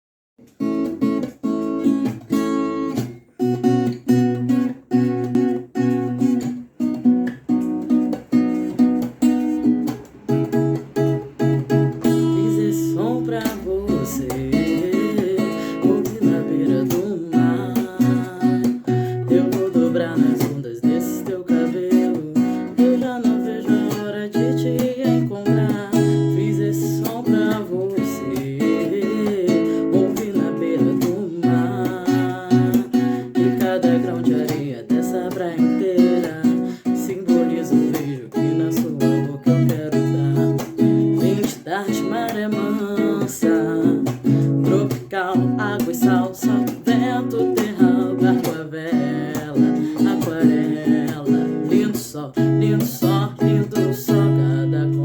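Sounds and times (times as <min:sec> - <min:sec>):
acoustic guitar strumming: 0:00.4 - 0:55.0.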